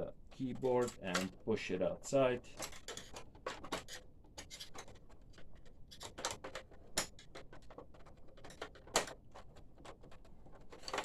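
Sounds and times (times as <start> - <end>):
plastic parts clicking and tapping: 0.3 - 1.5, 2.5 - 11.0.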